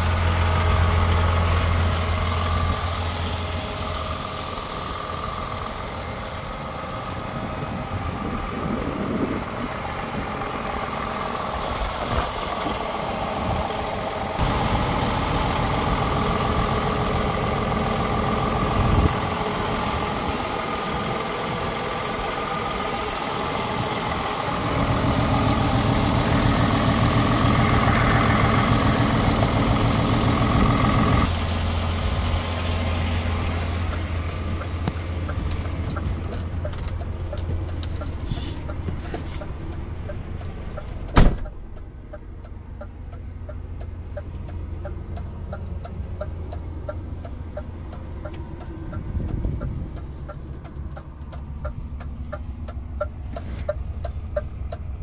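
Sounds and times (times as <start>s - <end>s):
diesel truck idling: 0.0s - 55.0s.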